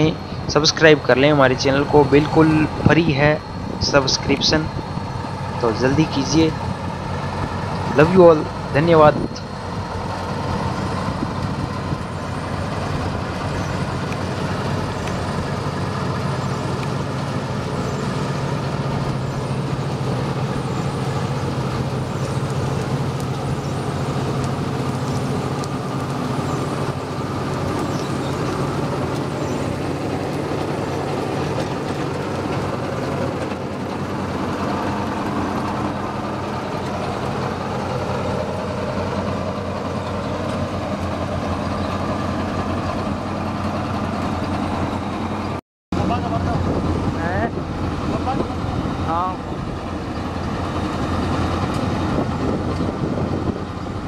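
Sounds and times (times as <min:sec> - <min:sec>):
combine harvester diesel drone: 0:00.0 - 0:54.0.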